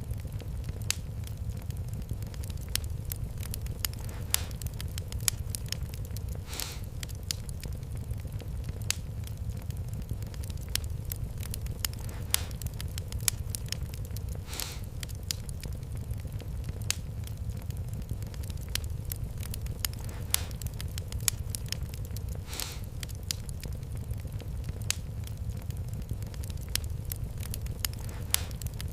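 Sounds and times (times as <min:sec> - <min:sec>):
fire crackling: 0:00.0 - 0:28.9.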